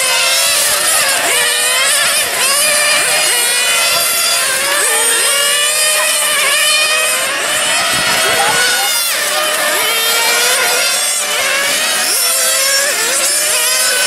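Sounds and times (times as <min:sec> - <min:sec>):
rc car engines revving: 0:00.0 - 0:14.0.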